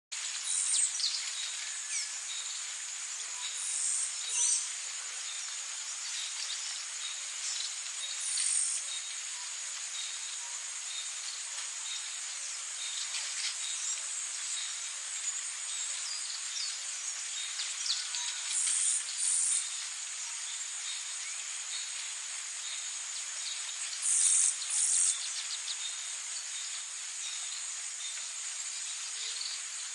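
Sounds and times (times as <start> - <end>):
insect chorus drone: 0.2 - 29.9.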